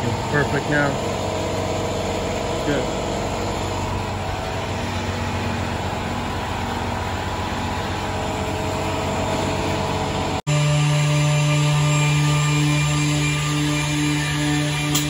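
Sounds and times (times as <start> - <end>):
edgebander machine running: 0.0 - 15.0.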